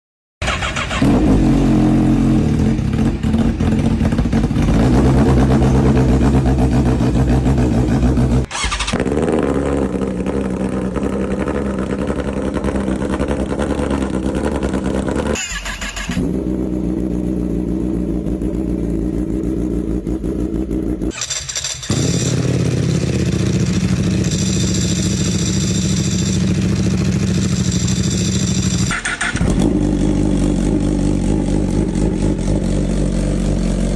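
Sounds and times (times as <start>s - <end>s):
motorcycle engines revving: 0.4s - 33.9s.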